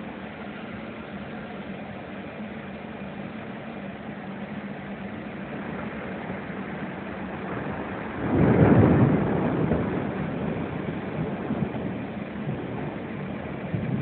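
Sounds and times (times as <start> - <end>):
thunder rumble: 0.0 - 14.0.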